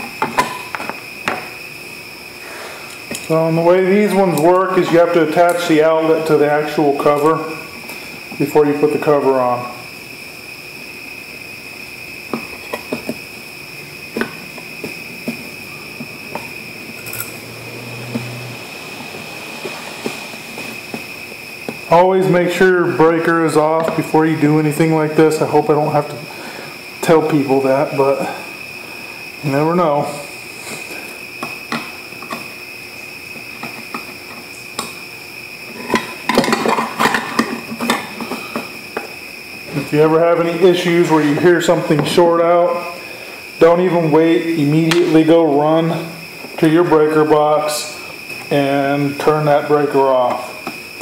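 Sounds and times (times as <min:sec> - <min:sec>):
steady high-pitched whine: 0:00.0 - 0:51.0.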